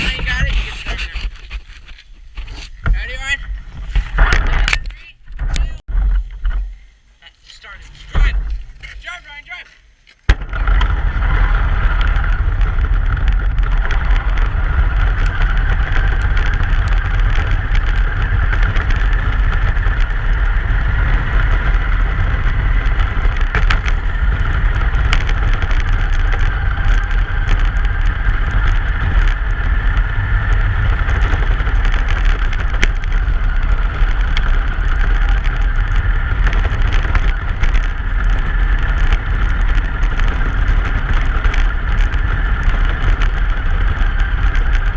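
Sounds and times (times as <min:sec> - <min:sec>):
truck engine and road noise: 0:07.2 - 0:44.9.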